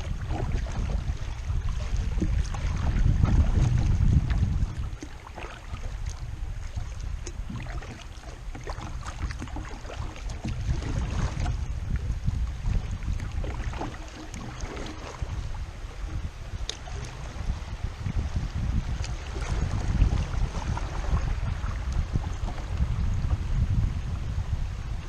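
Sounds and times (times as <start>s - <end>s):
paddle splashing in water: 0.0s - 23.4s
wind rumbling on microphone: 0.0s - 25.0s.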